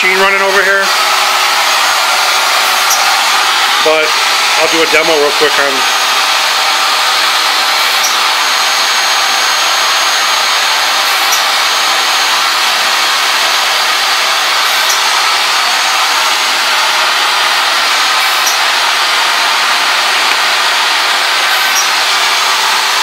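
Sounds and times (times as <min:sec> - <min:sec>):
machine motor rushing noise: 0:00.9 - 0:23.0.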